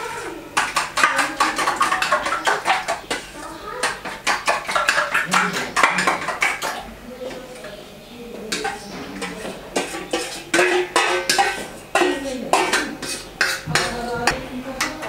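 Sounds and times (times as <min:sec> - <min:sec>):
metal spoon scraping metal bowl: 0:00.2 - 0:06.8, 0:08.5 - 0:14.0.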